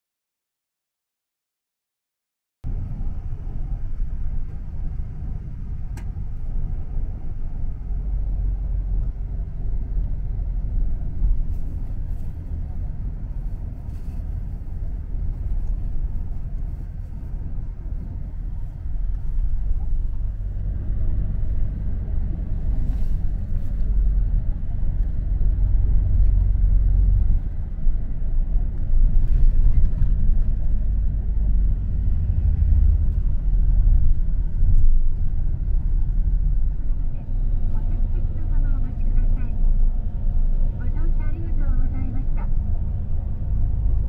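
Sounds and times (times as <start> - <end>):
bus engine and road noise: 2.6 - 44.0.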